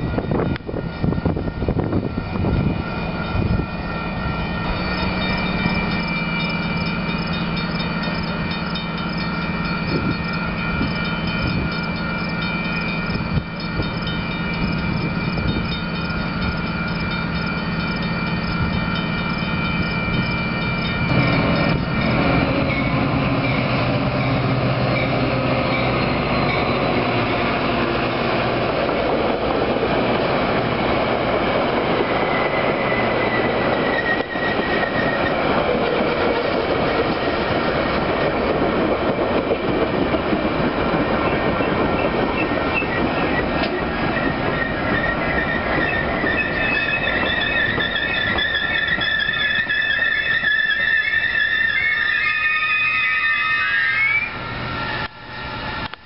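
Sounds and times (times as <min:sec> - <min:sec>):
crossing warning bells ringing: 0:00.0 - 0:56.0
diesel locomotive hum: 0:00.0 - 0:56.0
train wheels rumbling on rails: 0:00.0 - 0:56.0.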